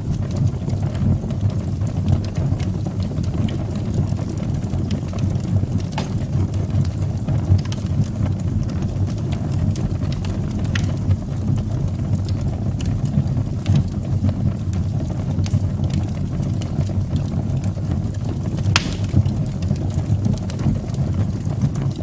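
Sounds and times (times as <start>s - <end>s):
fire rumbling: 0.0s - 12.9s, 13.6s - 22.0s
fire crackles and pops: 0.0s - 13.0s, 13.6s - 22.0s.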